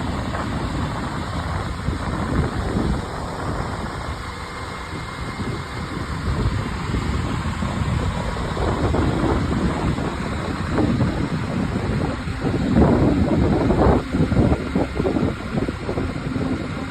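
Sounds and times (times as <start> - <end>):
diesel engine rumble: 0.0 - 16.9
wind buffeting microphone: 0.0 - 16.9.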